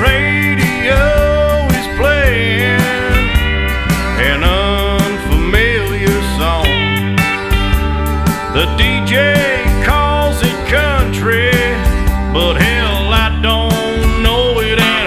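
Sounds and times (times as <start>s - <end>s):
bass and drum beat: 0.0s - 15.0s
slide guitar: 0.0s - 15.0s.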